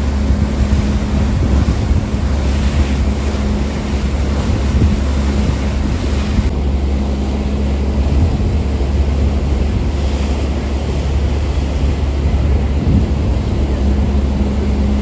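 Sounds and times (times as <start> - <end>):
ferry engine drone: 0.0 - 15.0
water rushing: 0.0 - 15.0
wind noise on microphone: 0.0 - 15.0.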